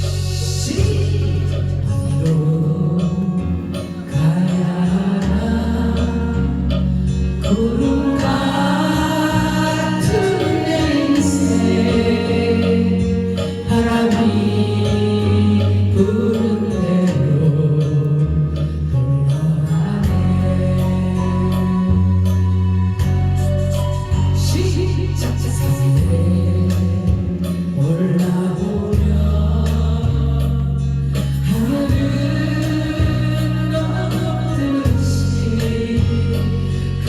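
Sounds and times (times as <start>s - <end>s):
trot song backing track: 0.0s - 37.0s
people singing: 0.4s - 22.4s, 24.4s - 37.0s.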